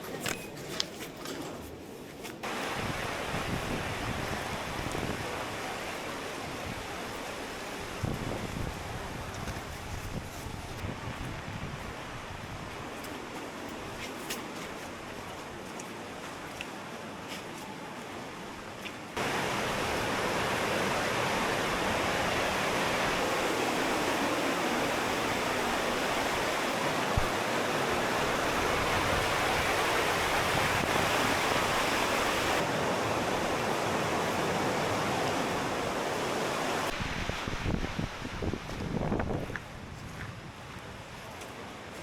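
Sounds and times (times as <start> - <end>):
rushing water of river cascade: 2.4 - 39.4.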